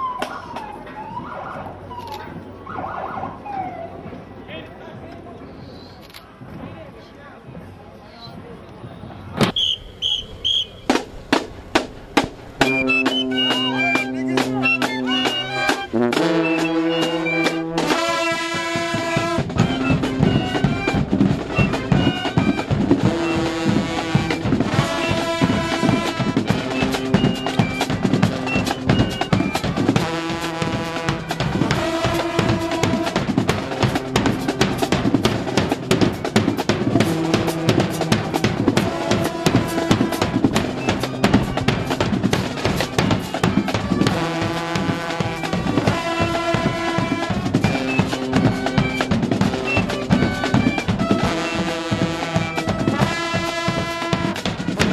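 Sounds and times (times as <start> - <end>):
snare drum rolls: 9.4 - 54.9
brass chords: 9.6 - 54.9.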